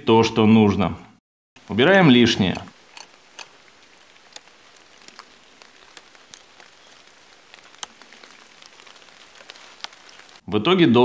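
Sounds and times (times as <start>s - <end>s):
low hiss: 1.6s - 11.0s.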